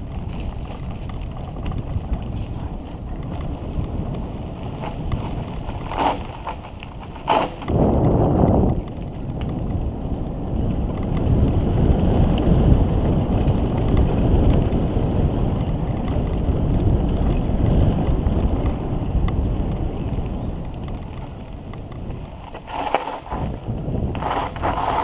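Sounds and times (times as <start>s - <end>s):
light ticks and rattles: 0.0s - 23.6s
tyres rumbling on dirt: 0.0s - 25.0s
wind buffeting microphone: 0.0s - 25.0s.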